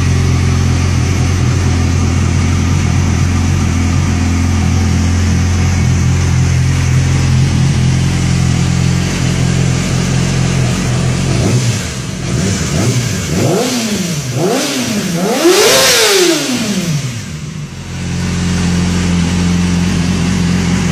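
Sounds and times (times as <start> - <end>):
motorcycle engine idling and revving: 0.0 - 20.9.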